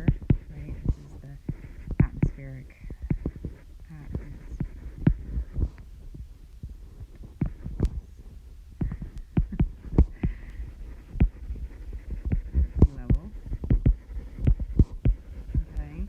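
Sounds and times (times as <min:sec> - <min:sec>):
low hum: 0:00.0 - 0:16.0
soft thumps and clicks: 0:00.0 - 0:16.0.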